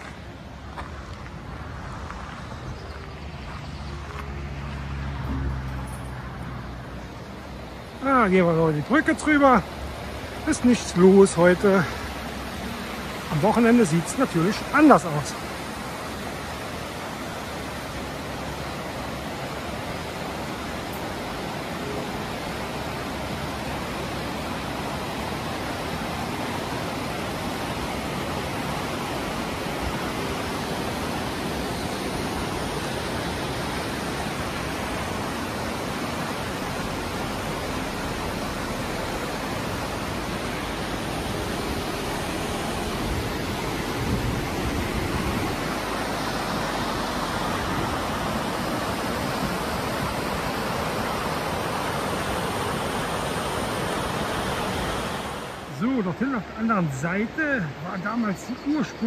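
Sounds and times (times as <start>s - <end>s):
whitewater rapids rushing: 4.0s - 59.0s.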